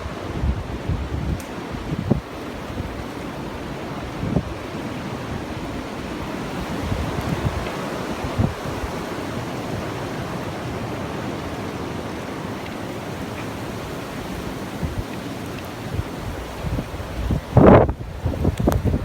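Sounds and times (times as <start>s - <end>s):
blizzard wind blowing: 0.0s - 19.0s
wind gusts buffeting microphone: 0.0s - 19.0s.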